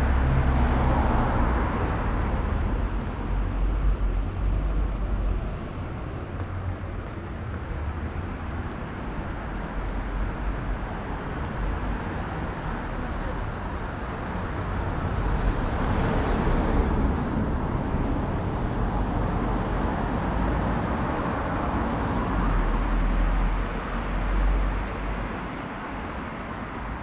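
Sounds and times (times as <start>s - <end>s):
vehicles passing on road: 0.0s - 27.0s.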